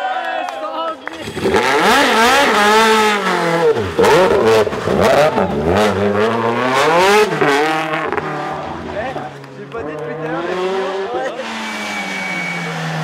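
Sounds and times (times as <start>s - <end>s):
rally car engine revving: 1.1s - 13.0s.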